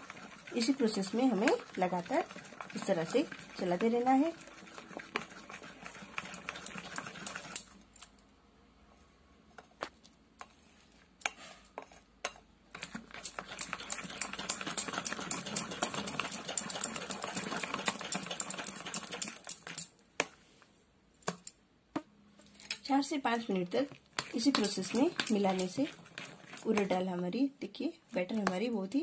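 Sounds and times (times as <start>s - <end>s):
spoon beating batter in bowl: 0.0s - 7.8s, 9.6s - 20.4s, 23.4s - 27.4s, 28.1s - 29.0s.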